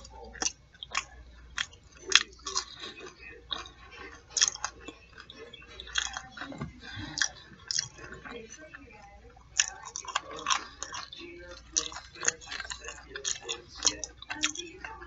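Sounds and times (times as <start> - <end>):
crunchy food chewing: 0.0 - 15.0.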